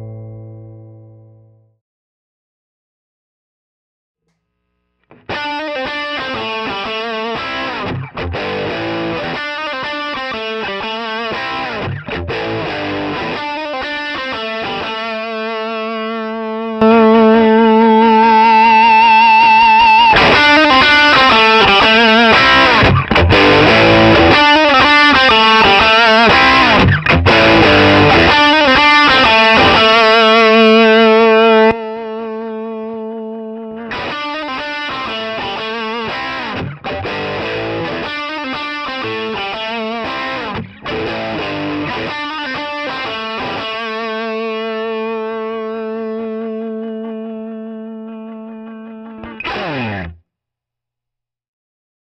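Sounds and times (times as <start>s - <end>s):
overdriven electric guitar: 0.0s - 1.6s, 5.0s - 50.2s.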